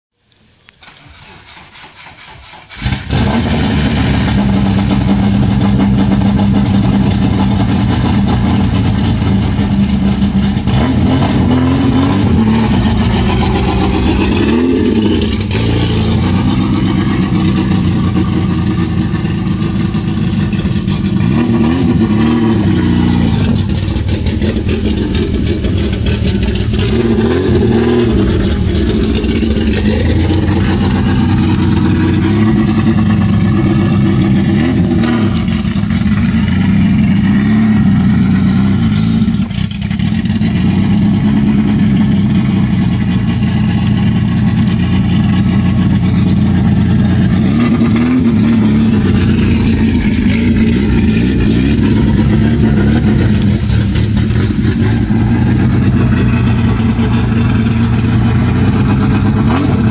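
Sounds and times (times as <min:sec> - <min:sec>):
car engine cranking: 0:00.3 - 0:59.9
car engine running: 0:02.8 - 0:59.9.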